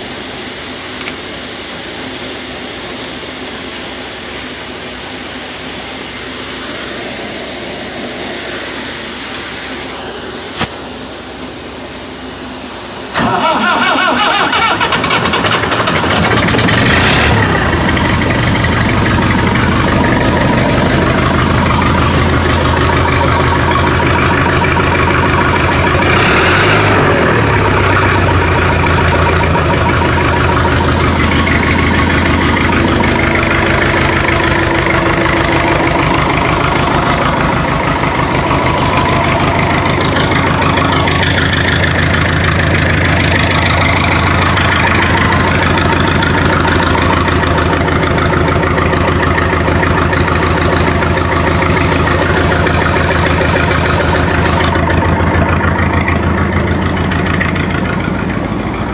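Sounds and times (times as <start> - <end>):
diesel engine starting and idling: 0.0 - 58.9.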